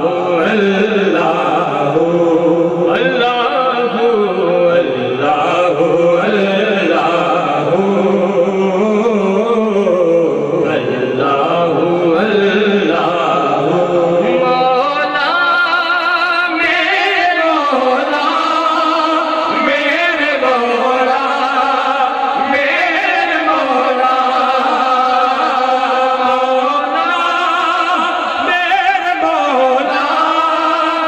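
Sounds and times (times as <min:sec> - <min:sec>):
men chanting into microphones: 0:00.0 - 0:31.0.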